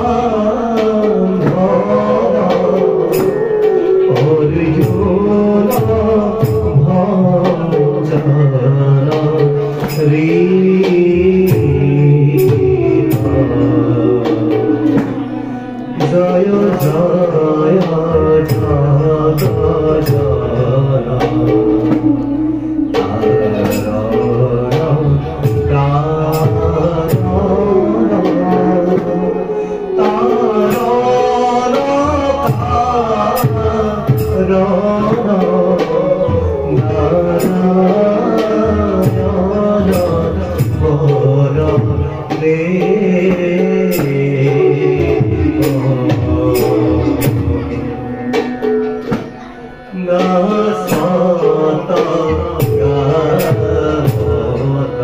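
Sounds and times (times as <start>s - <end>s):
bamboo flute: 0.0s - 55.0s
man singing: 0.0s - 55.0s.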